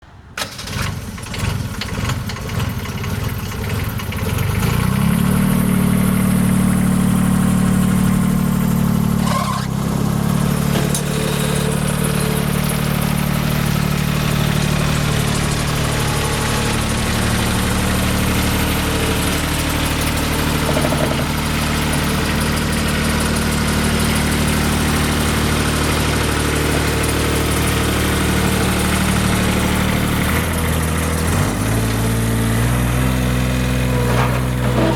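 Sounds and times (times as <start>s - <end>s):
diesel engine running: 0.4s - 34.9s.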